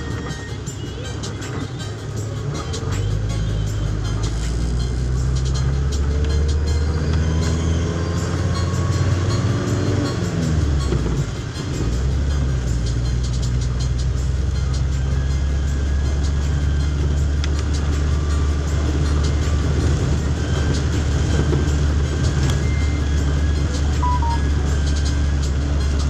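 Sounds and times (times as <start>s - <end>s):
vehicle rumbling in motion: 0.0s - 26.0s.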